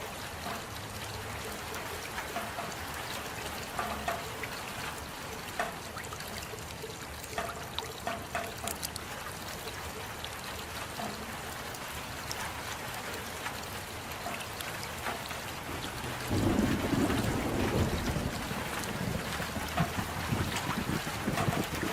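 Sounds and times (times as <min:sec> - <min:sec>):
deep rush of water: 0:00.0 - 0:21.9
drips ticking: 0:00.0 - 0:21.9
steady rain: 0:00.0 - 0:21.9
water trickling: 0:00.0 - 0:21.9.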